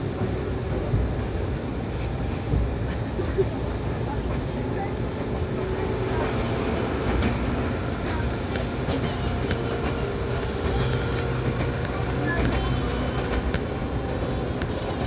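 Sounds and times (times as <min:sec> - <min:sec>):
low train hum: 0:00.0 - 0:15.0
train wheels rumbling on rail: 0:00.0 - 0:15.0.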